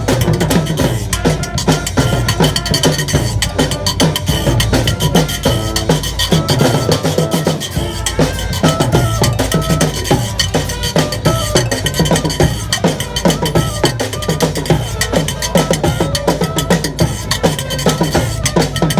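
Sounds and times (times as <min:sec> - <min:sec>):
clacking percussion: 0:00.0 - 0:18.9
snare and bass drum beat: 0:00.0 - 0:18.9
street brass band playing: 0:00.0 - 0:18.9.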